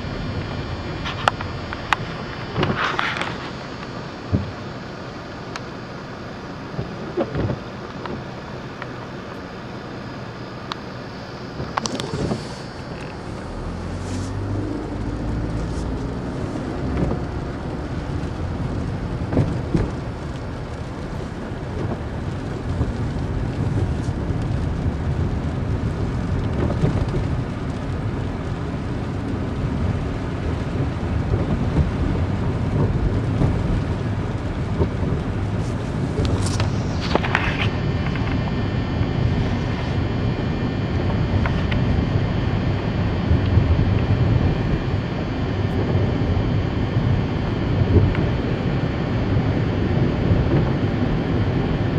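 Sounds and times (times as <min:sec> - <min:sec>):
car engine hum: 0:00.0 - 0:51.9
road noise: 0:00.0 - 0:51.9.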